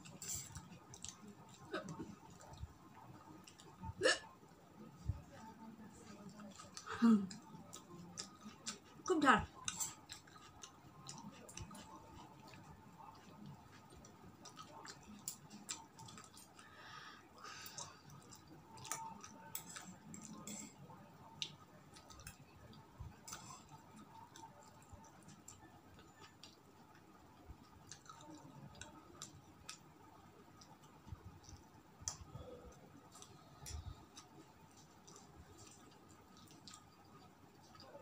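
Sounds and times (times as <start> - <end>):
quiet chewing: 0.0 - 38.0.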